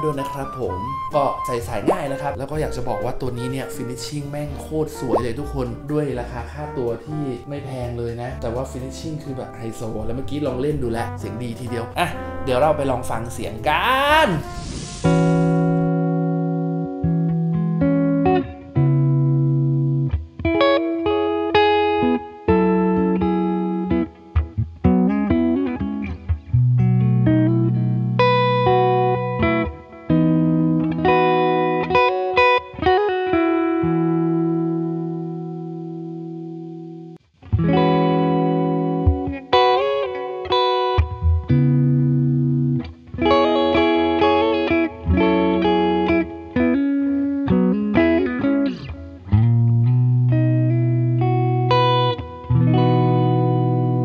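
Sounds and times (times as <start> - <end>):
electric guitar playing: 0.0 - 54.0.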